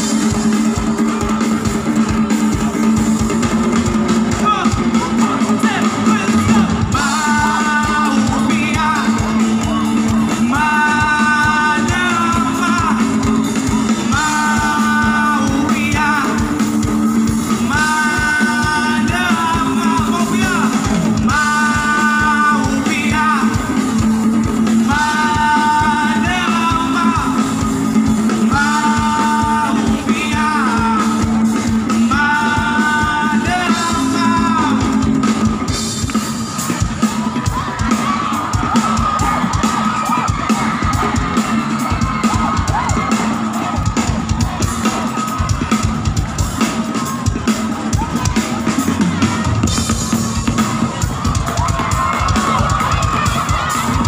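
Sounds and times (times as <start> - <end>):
live band with singing: 0.0 - 54.0.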